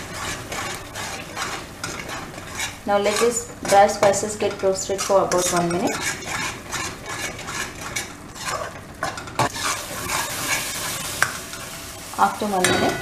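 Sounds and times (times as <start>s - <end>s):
paste sizzling in hot oil: 0.0s - 8.8s, 9.4s - 13.0s
metal spoon scraping a pan: 0.0s - 13.0s.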